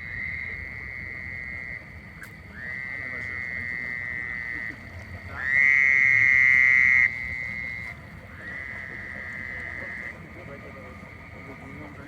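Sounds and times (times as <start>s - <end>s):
frogs trilling: 0.0s - 12.0s.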